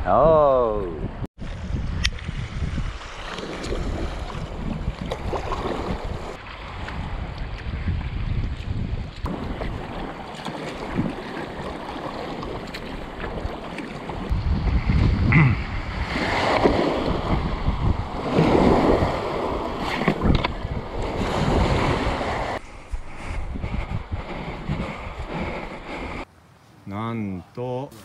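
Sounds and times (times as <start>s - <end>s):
wind noise on microphone: 0.0s - 11.4s, 12.4s - 26.3s
water splashing around kayak: 1.4s - 26.3s.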